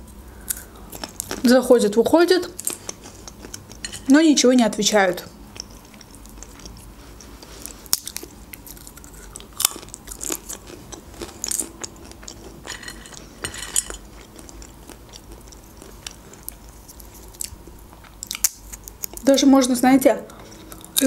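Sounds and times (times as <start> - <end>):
chewing and crunching snack food: 0.4 - 4.1, 5.2 - 19.3, 20.3 - 21.0.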